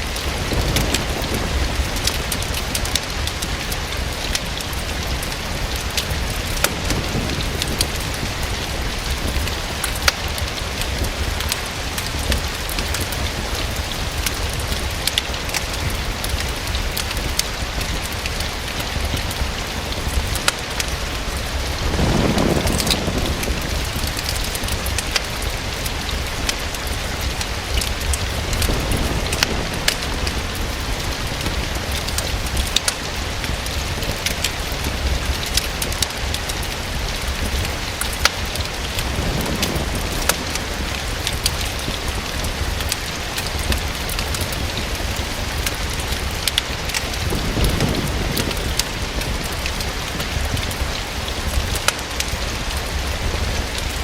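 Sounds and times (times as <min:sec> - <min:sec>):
fireplace fire crackling: 0:00.0 - 0:54.0
steady rain falling: 0:00.0 - 0:54.0.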